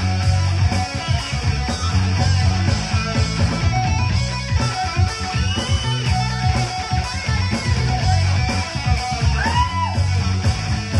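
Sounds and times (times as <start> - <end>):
live band playing instrumental: 0.0 - 10.9.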